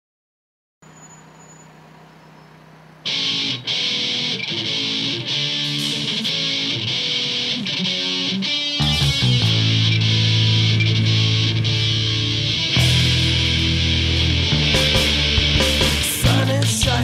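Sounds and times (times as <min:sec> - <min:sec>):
rock music with electric guitar: 0:03.0 - 0:17.0.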